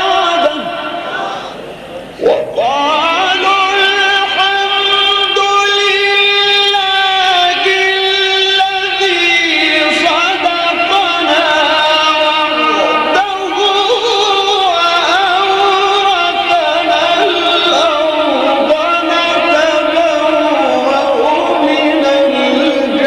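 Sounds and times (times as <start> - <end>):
man reciting melodically: 0.0 - 23.0.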